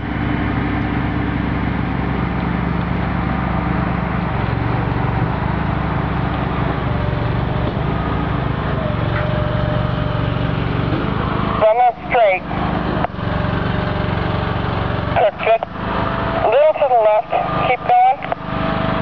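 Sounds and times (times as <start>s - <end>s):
diesel truck engine running: 0.0s - 19.0s
tyres rumbling on road: 0.0s - 19.0s.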